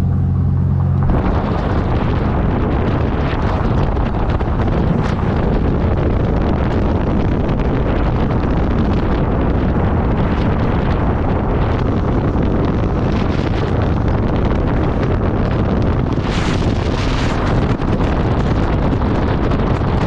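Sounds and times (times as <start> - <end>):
truck road noise: 0.0 - 20.0
wind buffeting microphone: 0.0 - 20.0.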